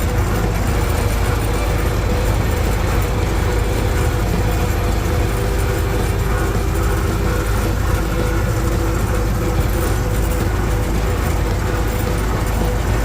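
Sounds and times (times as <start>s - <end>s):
vehicle engine running steadily: 0.0s - 13.0s.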